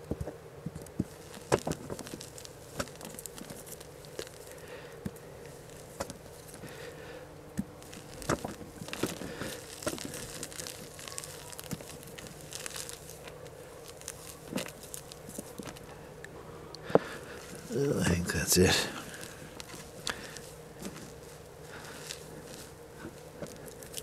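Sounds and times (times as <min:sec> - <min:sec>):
soil clumps clicking and crackling: 0:00.0 - 0:24.0
hands rustling soil: 0:00.7 - 0:24.0.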